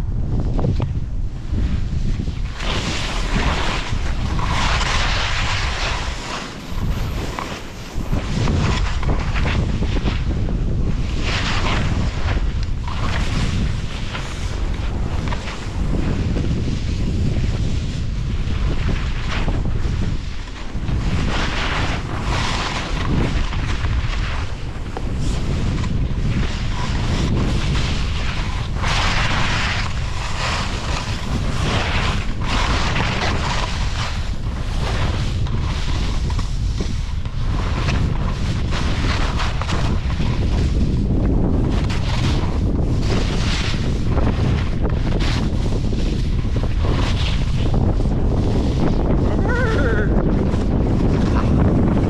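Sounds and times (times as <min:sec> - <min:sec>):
wind buffeting microphone: 0:00.0 - 0:52.0
skis hissing through snow: 0:01.5 - 0:52.0.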